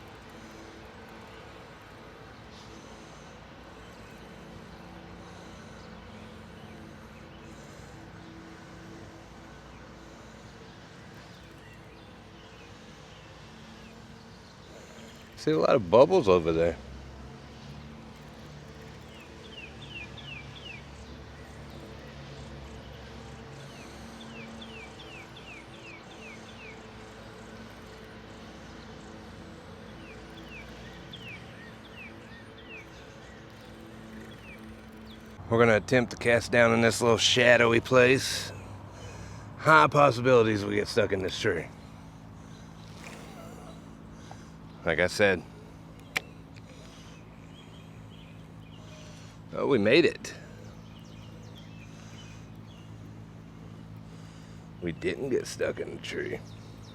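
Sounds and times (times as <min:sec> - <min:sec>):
outdoor background hum: 0:00.0 - 0:56.9.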